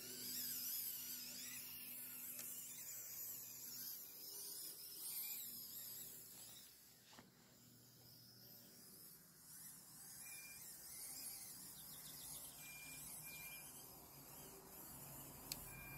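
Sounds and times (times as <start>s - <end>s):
small electric motor whining: 0.0s - 15.9s.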